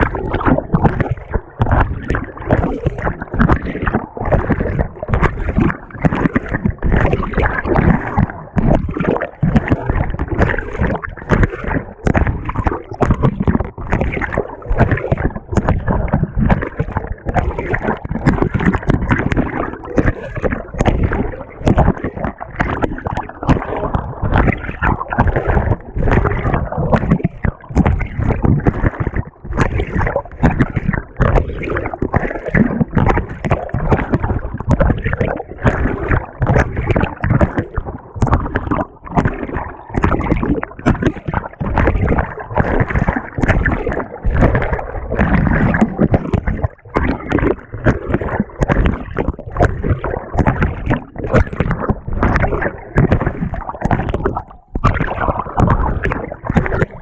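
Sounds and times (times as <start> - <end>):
washer water and laundry churning: 0.0 - 57.0.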